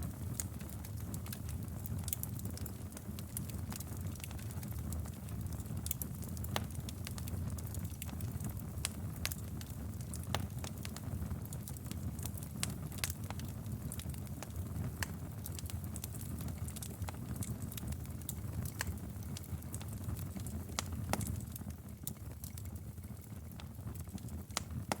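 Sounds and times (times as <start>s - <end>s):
fire crackling and popping: 0.0s - 25.0s
wood fire rumbling: 0.0s - 25.0s.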